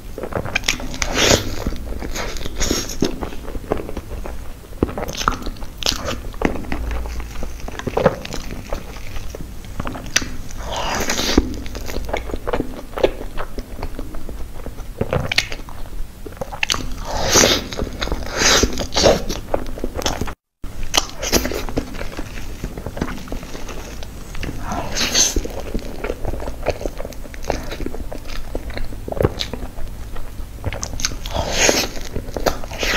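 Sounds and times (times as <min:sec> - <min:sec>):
crepe layers squishing: 0:00.0 - 0:32.9
wet chewing and mouth clicks: 0:00.2 - 0:32.9.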